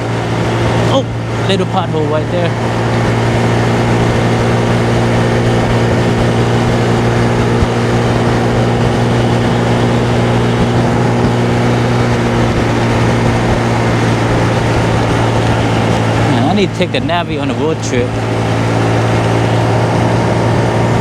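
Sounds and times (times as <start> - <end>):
small motorcycle engine running: 0.0 - 21.0
wind buffeting microphone: 0.0 - 21.0.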